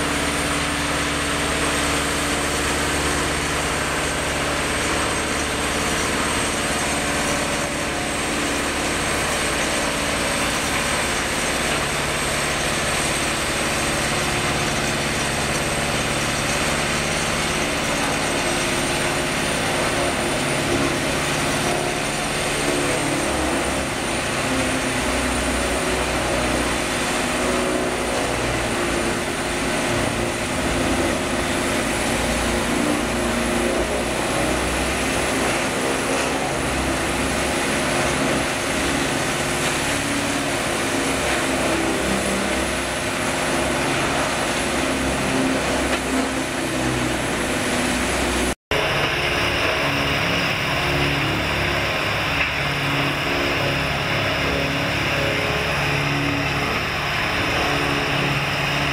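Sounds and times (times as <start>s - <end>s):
tub grinder grinding wood: 0.0s - 58.9s.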